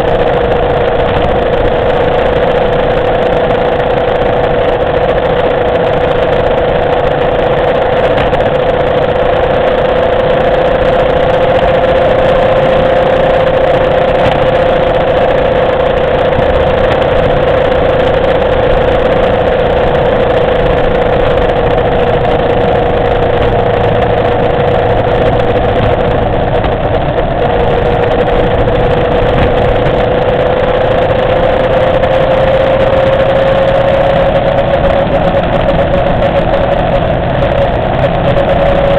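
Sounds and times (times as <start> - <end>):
motorcycle engine running: 0.0 - 38.9
rushing haze: 0.0 - 38.9.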